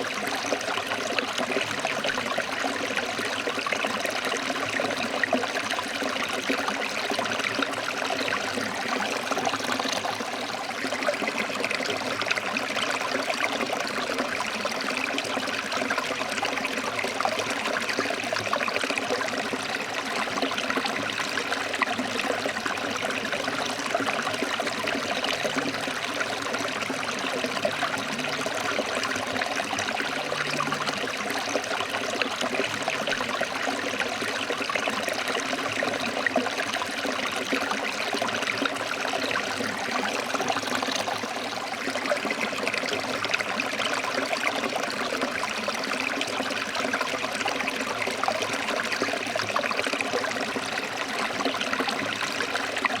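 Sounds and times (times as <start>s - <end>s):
stream splashing over rocks: 0.0s - 53.0s.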